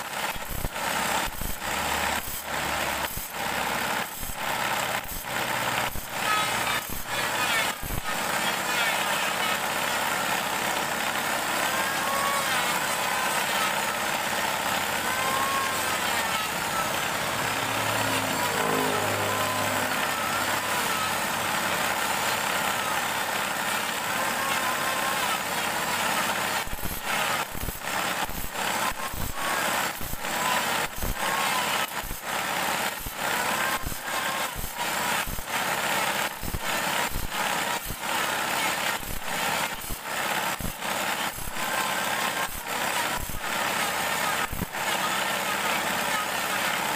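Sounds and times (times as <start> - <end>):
saw running with steady hiss: 0.0 - 46.9.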